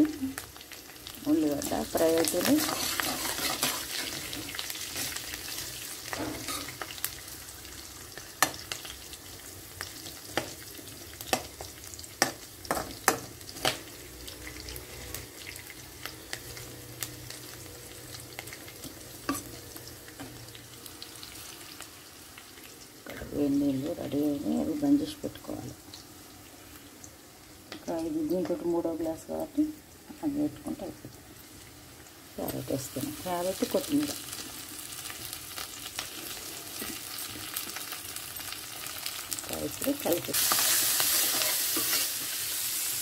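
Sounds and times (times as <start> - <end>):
onion and chillies sizzling in oil: 0.0 - 43.0.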